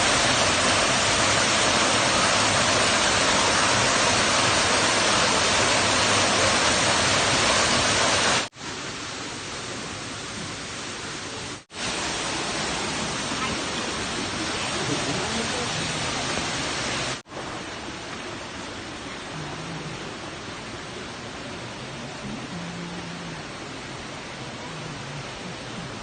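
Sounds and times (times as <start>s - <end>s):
rush of falling water: 0.0s - 26.0s.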